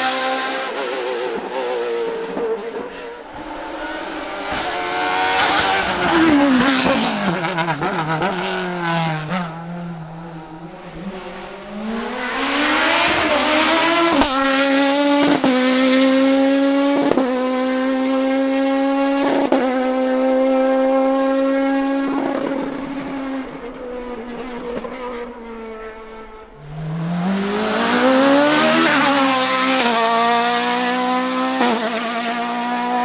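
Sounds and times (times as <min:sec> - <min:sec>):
gear upshifts cutting engine: 0:00.0 - 0:33.0
race car engine at full throttle: 0:00.0 - 0:33.0.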